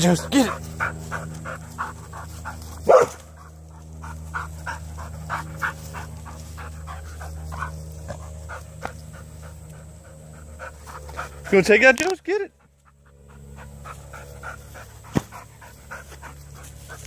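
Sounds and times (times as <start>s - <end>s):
dog panting: 0.0s - 17.0s
steady low hum: 0.0s - 17.0s.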